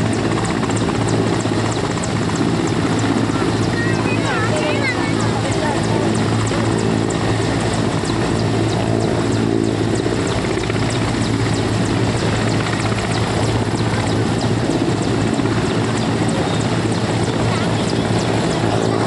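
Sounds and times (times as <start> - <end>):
helicopter rotor beating overhead: 0.0 - 19.0.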